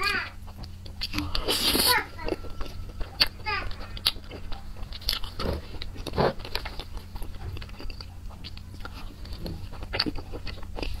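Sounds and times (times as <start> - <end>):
low steady hum: 0.0 - 11.0
person chewing cake: 0.0 - 11.0.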